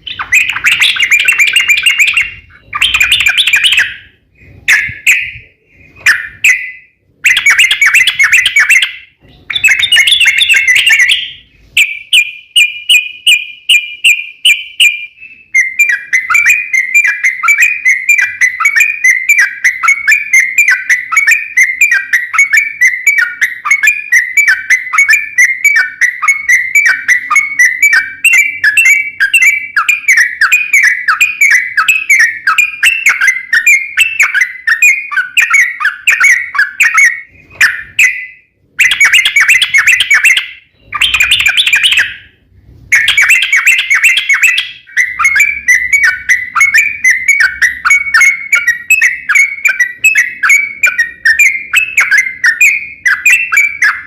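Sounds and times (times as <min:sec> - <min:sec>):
bird singing chirping whistles: 0:00.0 - 0:54.0.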